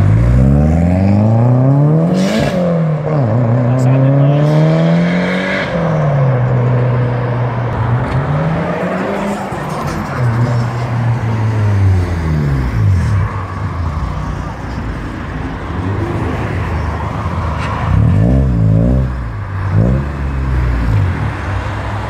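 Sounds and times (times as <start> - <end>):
car engines accelerating: 0.0 - 22.0.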